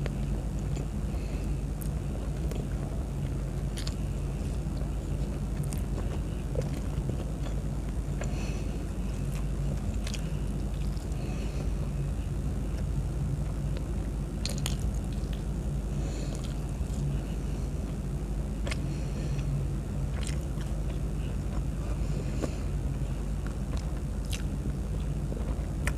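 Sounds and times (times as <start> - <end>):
low background hum: 0.0 - 25.9
person eating: 0.0 - 25.9.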